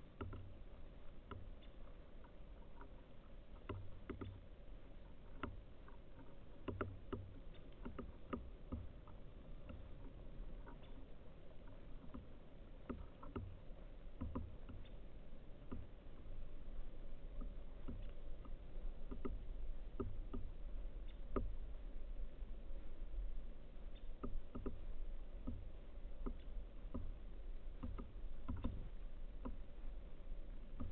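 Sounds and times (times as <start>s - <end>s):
birds pecking and tapping: 0.0s - 30.9s
soft low thumps: 3.5s - 30.9s.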